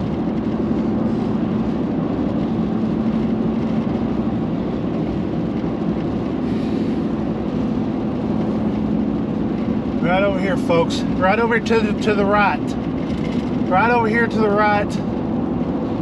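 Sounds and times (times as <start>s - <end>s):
vehicle road noise and engine hum: 0.0s - 16.0s.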